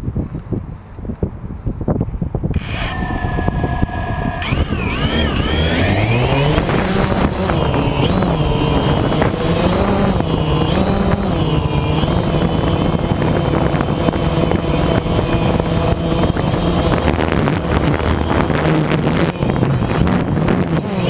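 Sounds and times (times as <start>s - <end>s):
vehicle engine revving: 2.6s - 21.0s.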